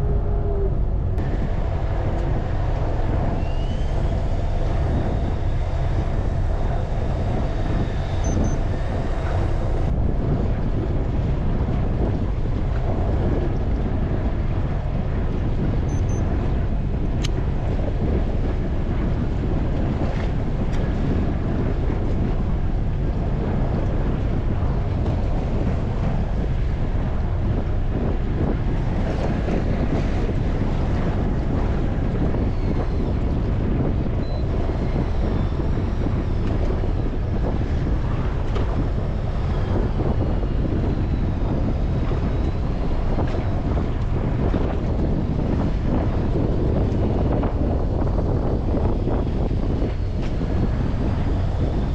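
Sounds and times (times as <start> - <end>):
sea rushing: 0.0 - 51.9
wind buffeting the microphone: 0.0 - 51.9.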